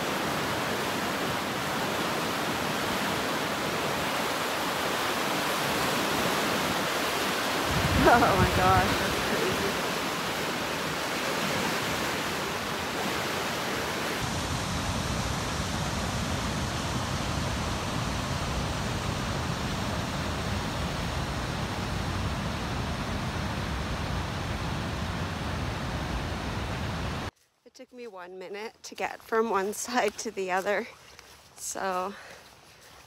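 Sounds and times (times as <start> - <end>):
river rushing through rapids: 0.0 - 27.3.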